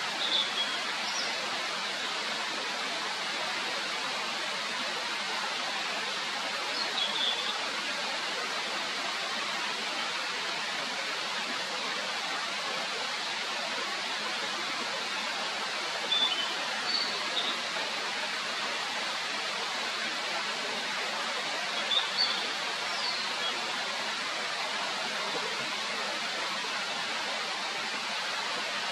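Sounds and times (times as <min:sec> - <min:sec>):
mountain stream rushing: 0:00.0 - 0:28.9.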